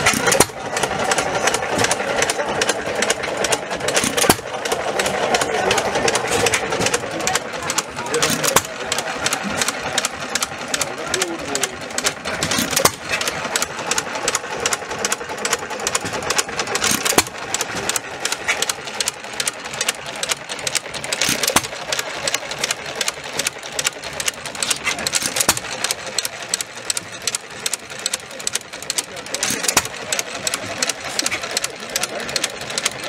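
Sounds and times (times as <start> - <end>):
engine bangs: 0.0 - 33.0
small gas engines clattering: 0.0 - 33.0.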